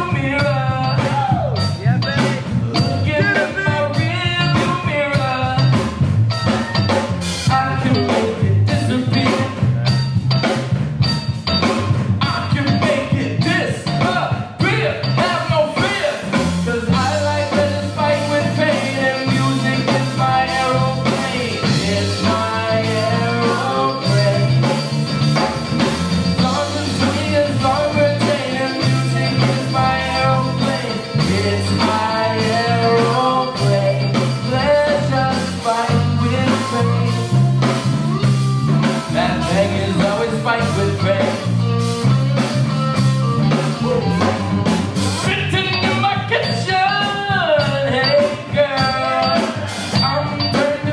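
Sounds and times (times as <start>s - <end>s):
voices singing: 0.0s - 5.8s, 7.4s - 9.8s, 12.2s - 25.5s, 26.3s - 42.1s, 43.4s - 50.9s
bass guitar: 0.0s - 50.9s
drum kit steady beat: 0.0s - 50.9s
electric guitar: 0.0s - 50.9s.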